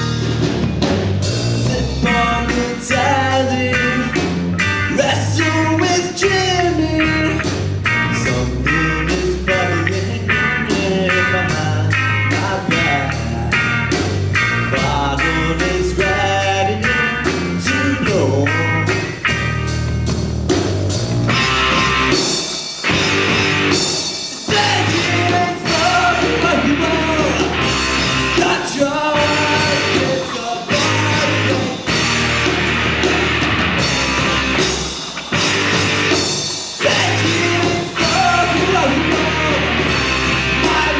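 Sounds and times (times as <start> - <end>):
live rock band with singing: 0.0 - 40.9.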